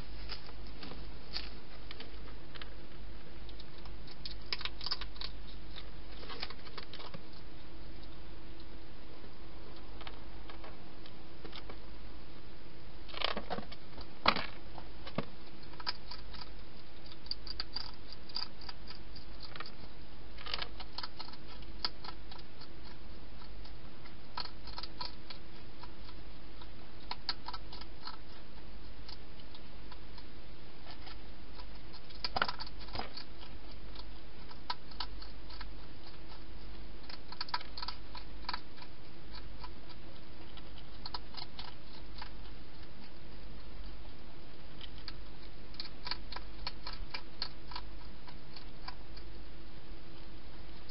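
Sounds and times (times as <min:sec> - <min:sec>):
hedgehog chewing: 0:00.0 - 0:08.8, 0:13.1 - 0:50.9
steady low hum: 0:00.0 - 0:50.9.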